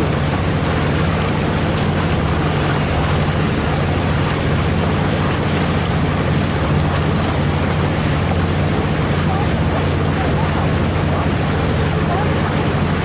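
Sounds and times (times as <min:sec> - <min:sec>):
motorboat engine hum: 0:00.0 - 0:13.0
water rushing along hull: 0:00.0 - 0:13.0.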